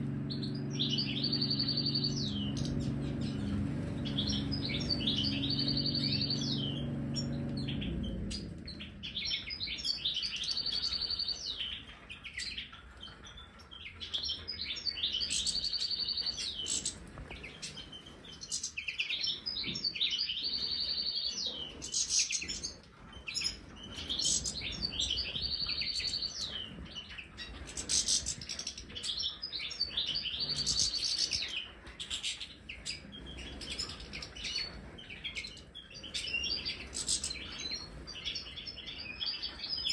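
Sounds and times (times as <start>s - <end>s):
goldfinches twittering and singing: 0.0s - 39.9s.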